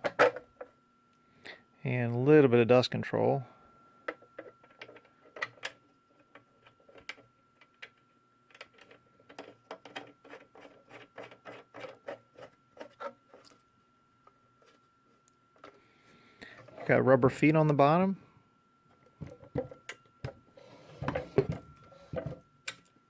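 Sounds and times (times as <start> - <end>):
faint high hum: 0.0 - 23.0.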